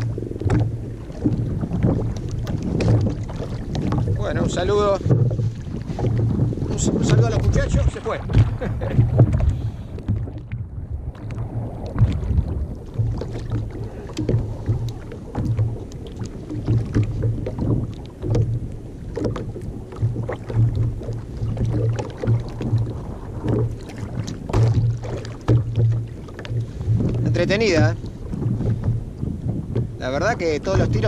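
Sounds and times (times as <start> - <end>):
small splashes: 0.0 - 29.0
low knocks: 0.0 - 31.0
water lapping against kayak hull: 0.0 - 31.0.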